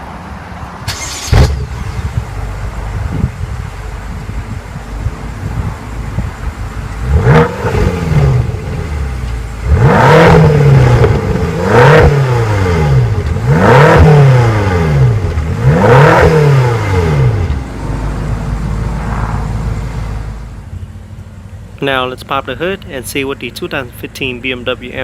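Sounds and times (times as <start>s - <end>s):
car engine revving: 0.8s - 25.0s.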